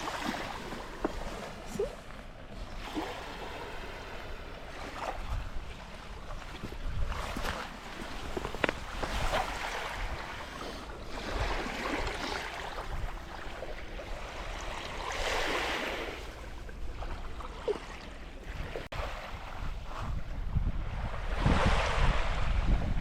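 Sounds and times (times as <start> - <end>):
wind rumbling on microphone: 0.0 - 17.5, 18.3 - 23.0.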